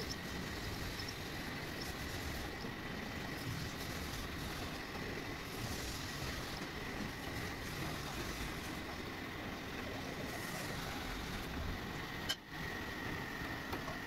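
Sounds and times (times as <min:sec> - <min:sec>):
thin high whine: 0:00.0 - 0:13.4
milling machine running: 0:00.0 - 0:14.0.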